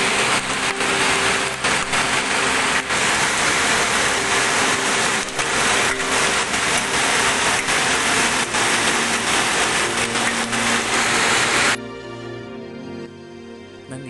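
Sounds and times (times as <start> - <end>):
hail and rain pelting down: 0.0 - 11.8.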